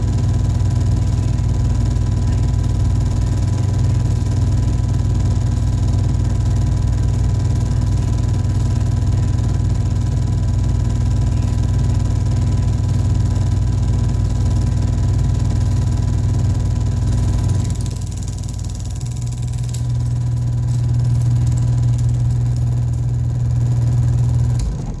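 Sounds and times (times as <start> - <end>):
film projector whirring: 0.0 - 25.0.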